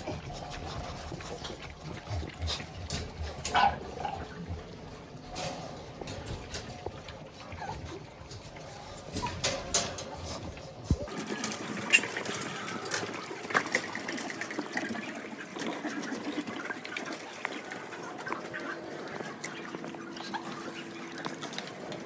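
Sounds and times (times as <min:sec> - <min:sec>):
dogs chewing wet food: 0:00.0 - 0:09.4, 0:11.1 - 0:22.0.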